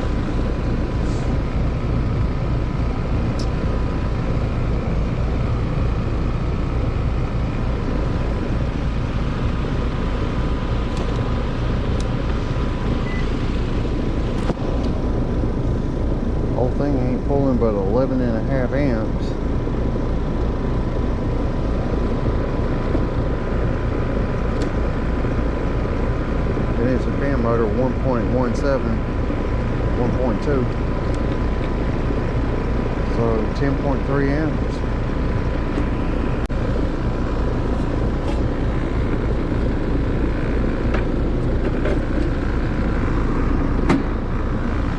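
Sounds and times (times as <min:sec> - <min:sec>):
heat pump compressor humming: 0:00.0 - 0:44.9.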